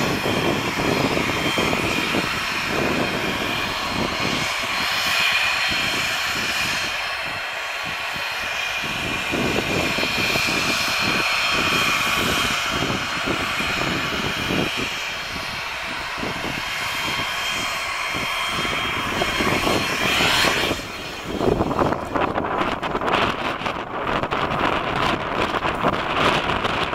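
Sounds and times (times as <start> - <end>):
jet engines whining: 0.0 - 26.9
jet exhaust rumble: 0.0 - 26.9.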